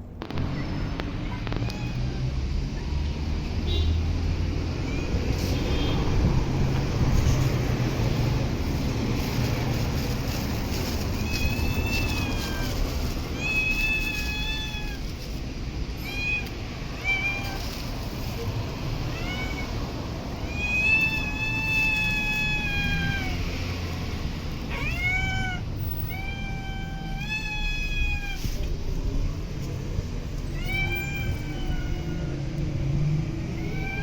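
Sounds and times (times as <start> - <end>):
cat meowing: 0.5 - 2.4, 3.6 - 8.2, 9.7 - 23.6, 24.6 - 32.7, 33.4 - 34.0.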